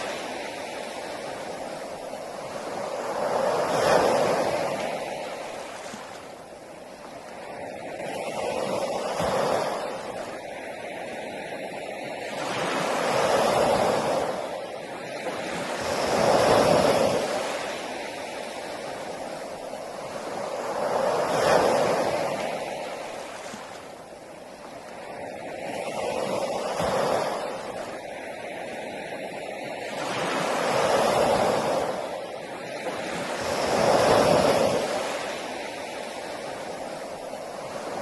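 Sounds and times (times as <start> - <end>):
sea waves breaking on beach: 0.0 - 38.0.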